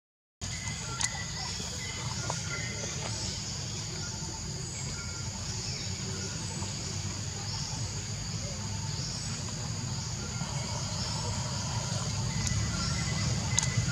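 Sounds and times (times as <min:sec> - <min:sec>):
high-pitched insect chorus: 0:00.4 - 0:13.9
low rumble: 0:01.5 - 0:13.9.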